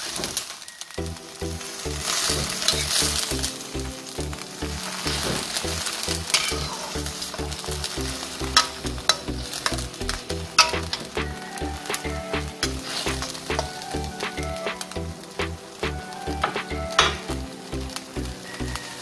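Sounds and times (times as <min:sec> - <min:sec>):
stir-fry sizzling in a wok: 0:00.0 - 0:19.0
background music with beat: 0:01.0 - 0:19.0.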